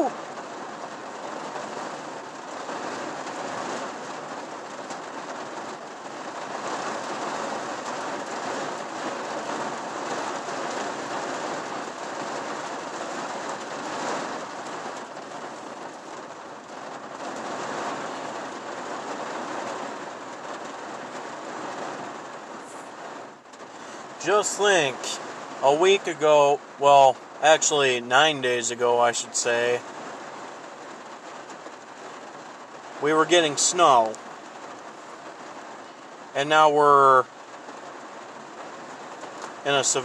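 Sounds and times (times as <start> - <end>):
heavy rain on vehicle roof: 0.0 - 40.0.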